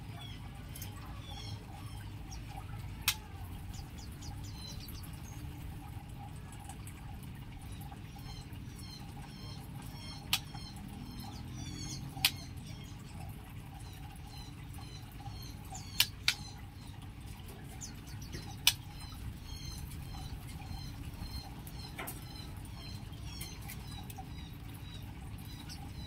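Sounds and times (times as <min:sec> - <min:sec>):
small birds chirping: 0:00.0 - 0:06.7, 0:07.4 - 0:26.0.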